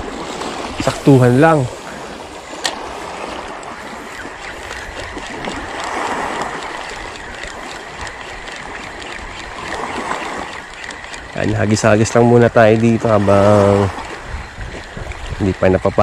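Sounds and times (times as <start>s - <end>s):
seawater splashing against rocks: 0.0s - 16.0s.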